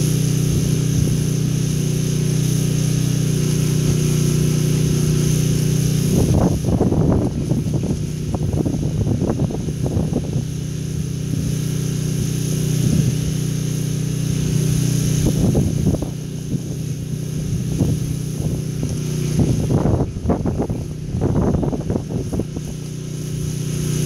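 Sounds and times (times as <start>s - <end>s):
pressure washer engine running: 0.0s - 24.0s
spray wand water spattering: 0.0s - 24.0s.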